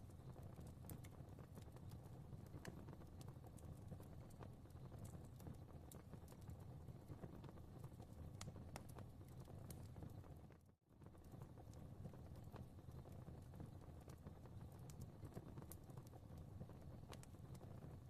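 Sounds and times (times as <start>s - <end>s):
fire crackling and popping: 0.0s - 18.0s
low rumble of flame: 0.0s - 18.0s.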